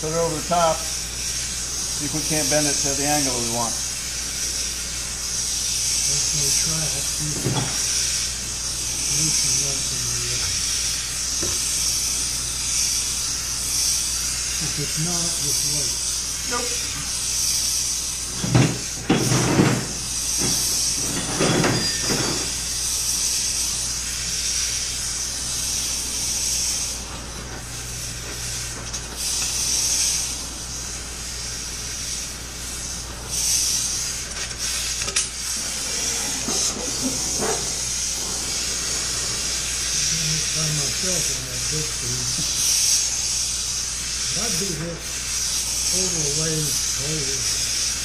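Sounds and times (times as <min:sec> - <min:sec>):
torch hissing: 0:00.0 - 0:48.0.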